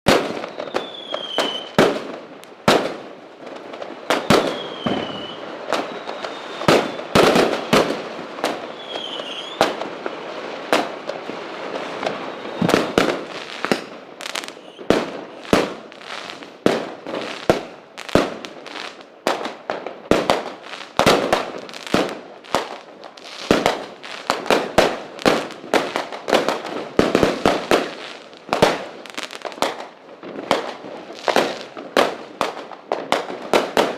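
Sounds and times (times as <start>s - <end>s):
falling fireworks whistles: 0.1s - 3.0s, 3.8s - 31.7s
fireworks bangs and crackling: 0.1s - 33.9s.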